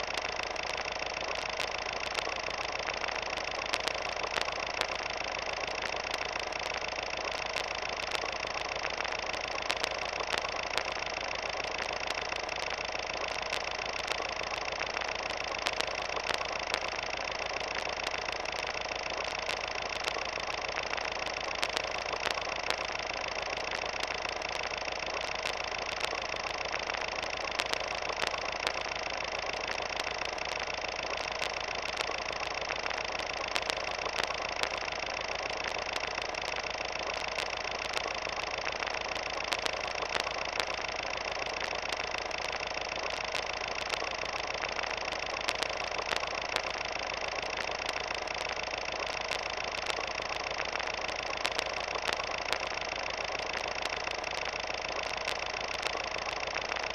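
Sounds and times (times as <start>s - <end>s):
small clicks and crackles: 0.0s - 56.9s
steady mechanical whir: 0.0s - 56.9s.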